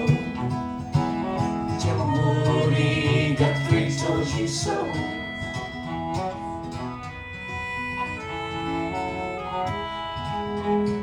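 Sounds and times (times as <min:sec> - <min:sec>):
guitar backing: 0:00.0 - 0:11.0
reedy melody line: 0:00.0 - 0:11.0.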